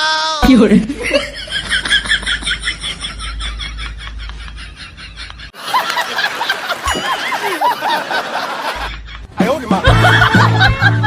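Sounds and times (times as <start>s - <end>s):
giggling laughter: 1.0s - 11.0s.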